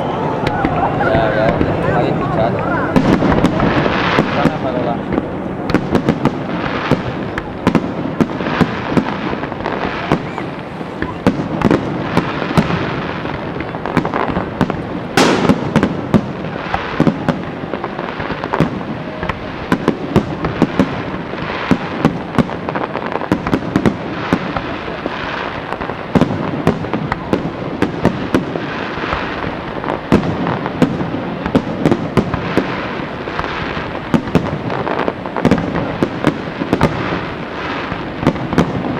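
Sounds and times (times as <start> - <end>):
fireworks bangs: 0.0 - 38.9
fireworks crackle and rumble: 0.0 - 38.9.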